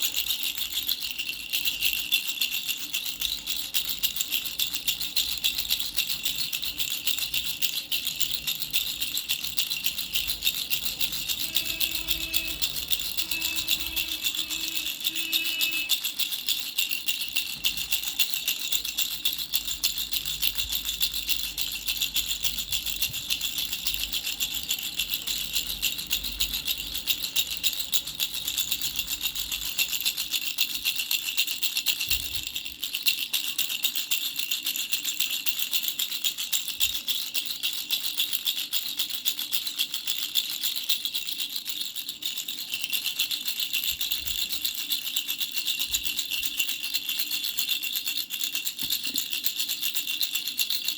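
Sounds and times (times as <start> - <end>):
baby rattle bells jingling: 0.0 - 50.9.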